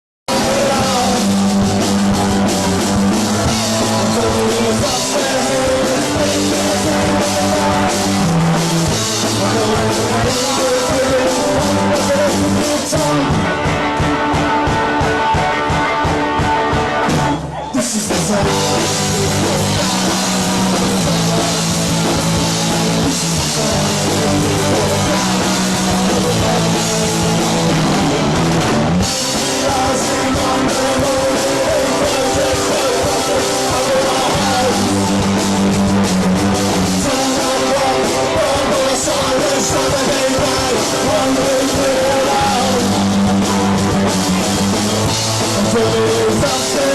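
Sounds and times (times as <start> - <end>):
bass guitar: 0.3 - 46.9
drum kit: 0.3 - 46.9
electric guitars: 0.3 - 46.9.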